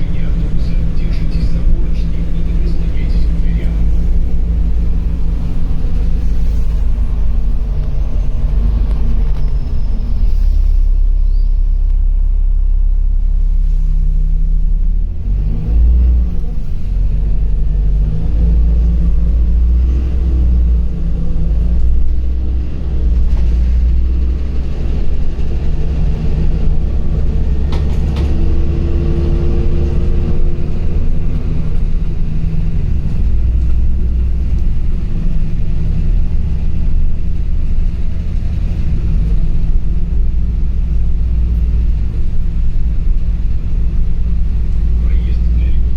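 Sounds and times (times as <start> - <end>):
bus engine rumbling: 0.0 - 45.9.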